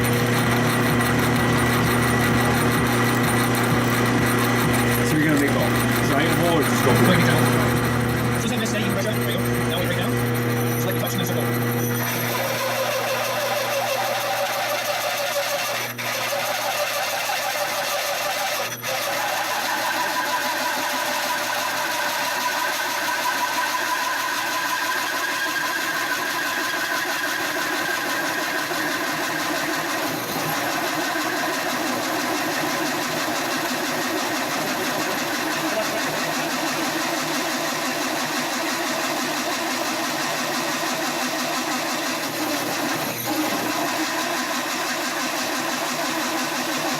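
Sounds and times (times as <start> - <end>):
band saw cutting metal: 0.0 - 46.9.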